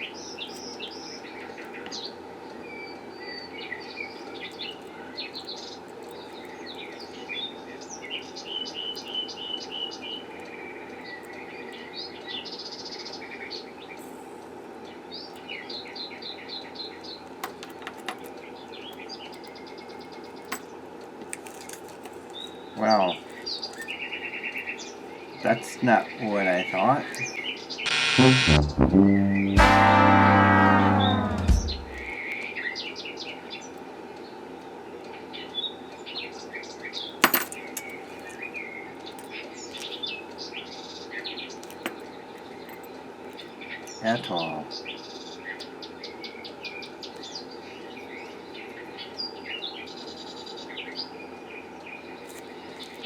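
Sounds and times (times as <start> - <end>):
small birds chirping: 0.0 - 17.4, 18.2 - 21.2, 22.2 - 27.8, 32.1 - 53.0
steady background noise: 0.0 - 28.2, 31.6 - 53.0.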